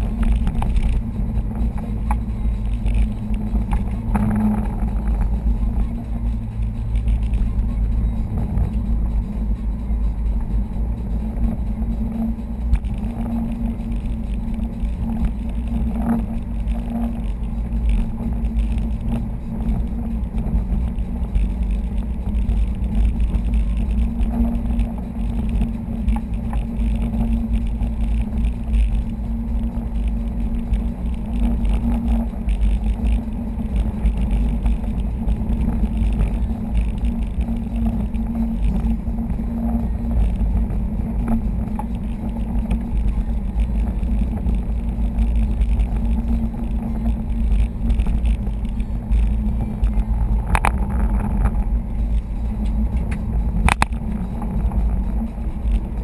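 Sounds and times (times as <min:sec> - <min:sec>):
car engine and road rumble in cabin: 0:00.0 - 0:56.0.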